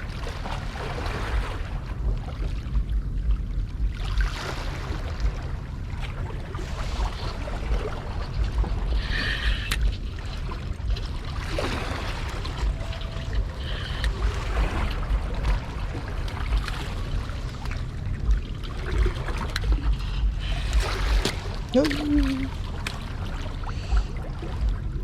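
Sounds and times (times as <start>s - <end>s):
low rumble: 0.0s - 25.0s
water sloshing and trickling: 0.0s - 25.0s.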